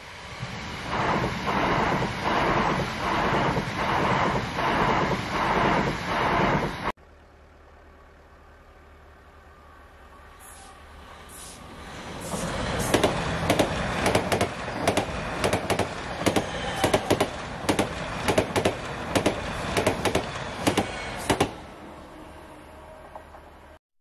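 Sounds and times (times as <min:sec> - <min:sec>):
electric train rushing past: 0:00.0 - 0:07.0, 0:09.6 - 0:23.8.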